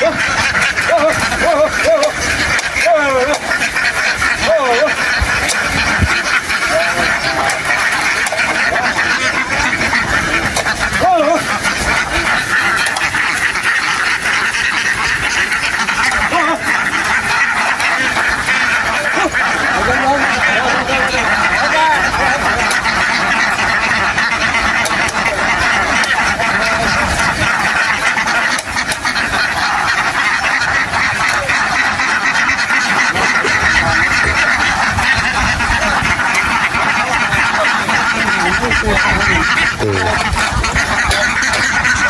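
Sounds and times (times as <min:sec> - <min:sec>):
flock of ducks quacking: 0:00.0 - 0:42.0.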